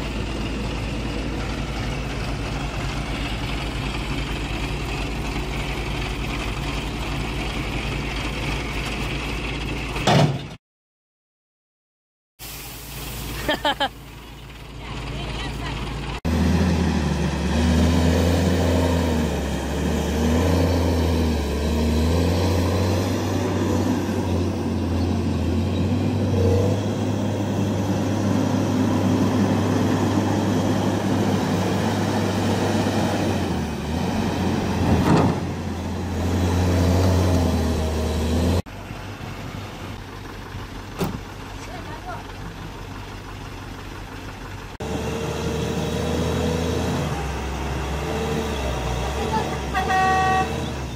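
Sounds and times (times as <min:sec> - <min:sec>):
heavy diesel engine running hard: 0:00.0 - 0:10.2, 0:13.1 - 0:50.9.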